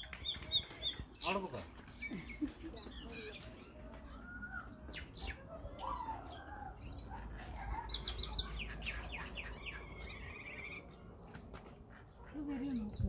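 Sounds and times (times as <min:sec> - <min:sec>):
bird trill: 0:00.0 - 0:11.1
birds chirping and calling: 0:00.0 - 0:13.0.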